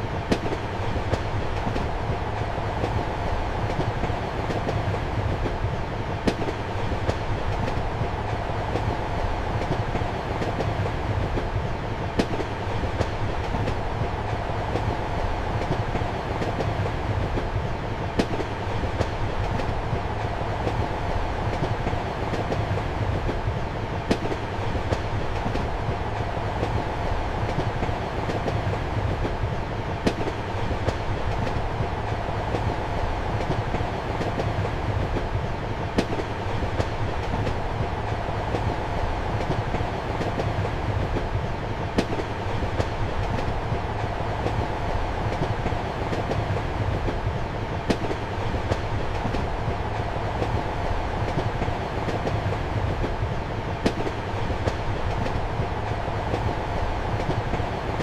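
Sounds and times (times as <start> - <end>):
train rumble and hum: 0.0 - 58.0
train wheels clicking: 0.0 - 58.0.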